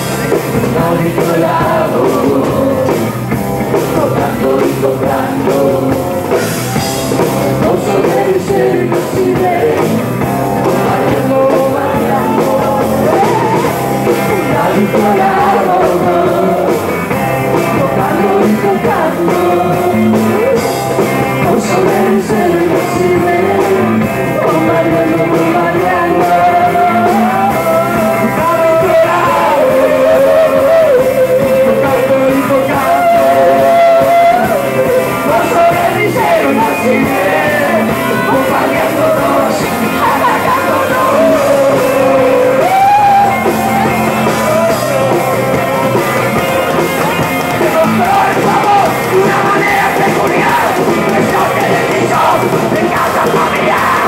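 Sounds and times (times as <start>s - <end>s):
electric guitar: 0.0s - 54.0s
live rock band: 0.0s - 54.0s
man singing: 0.0s - 54.0s.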